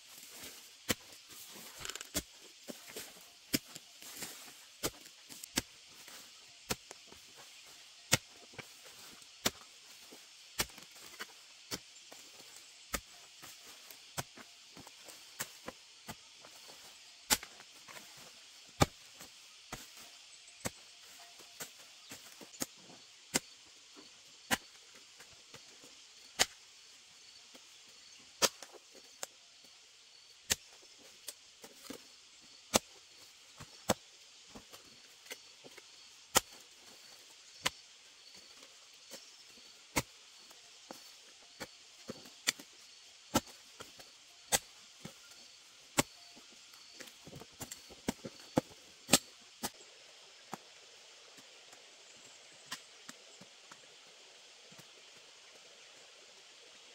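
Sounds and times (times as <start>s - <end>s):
hoe striking clay soil: 0.1s - 25.7s, 28.4s - 29.3s, 30.4s - 49.8s.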